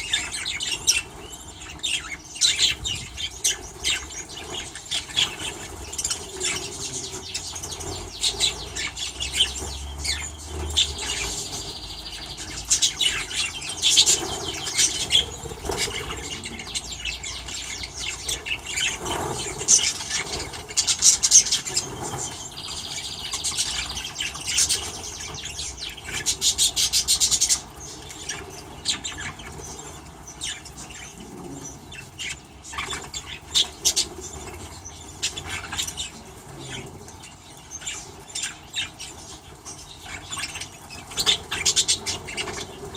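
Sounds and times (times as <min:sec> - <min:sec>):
small birds chirping: 0:00.0 - 0:42.9
wings flapping: 0:00.0 - 0:42.9.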